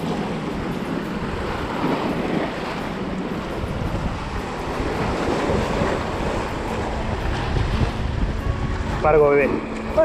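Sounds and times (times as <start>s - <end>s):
waves splashing on rocks: 0.0s - 10.0s
wind on microphone: 0.0s - 10.0s.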